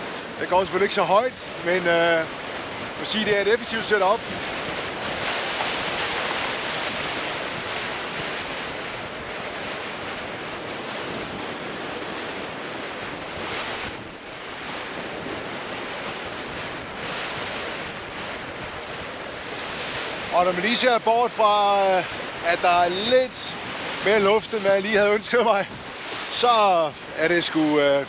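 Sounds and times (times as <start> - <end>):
strong wind: 0.0 - 28.0
waves washing along a hull: 0.0 - 28.0
wind buffeting the microphone: 0.0 - 28.0.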